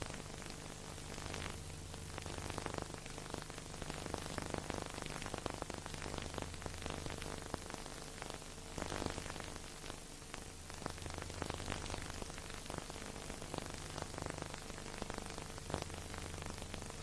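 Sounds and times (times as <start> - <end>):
hiss with crackling clicks: 0.0 - 17.0.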